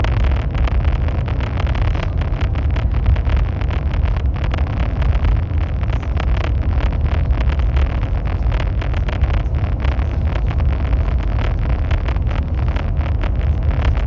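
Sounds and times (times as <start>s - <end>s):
high-speed train rumbling: 0.0s - 14.0s.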